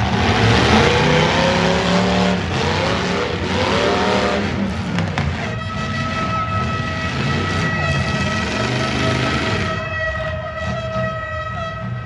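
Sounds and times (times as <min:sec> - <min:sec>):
car engines revving hard: 0:00.0 - 0:09.8
crowd noise: 0:00.0 - 0:12.0.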